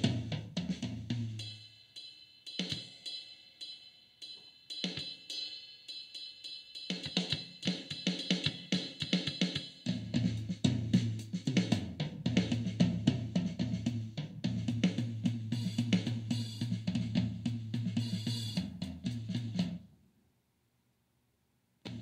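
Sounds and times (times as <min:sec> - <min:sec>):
drum kit playing a groove: 0:00.0 - 0:19.8.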